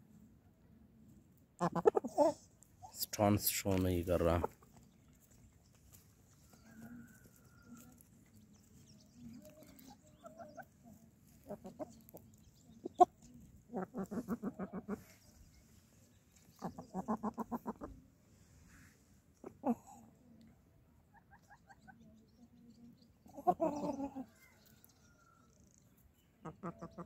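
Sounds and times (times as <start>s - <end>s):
chickens clucking: 1.6s - 15.7s, 16.3s - 18.2s, 19.2s - 27.0s.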